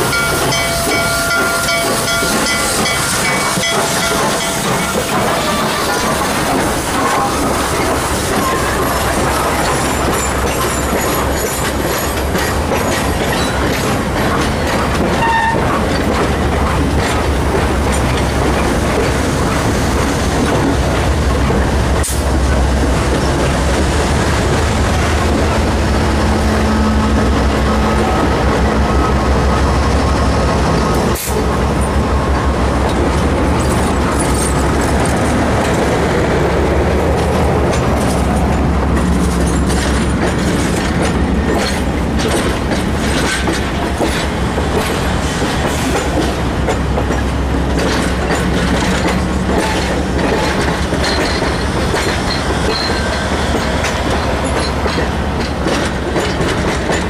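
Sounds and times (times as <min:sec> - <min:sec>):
clickety-clack over rail joints: 0:00.0 - 0:57.0
diesel locomotive drone: 0:00.0 - 0:57.0
train wheels rumbling on rails: 0:00.0 - 0:57.0.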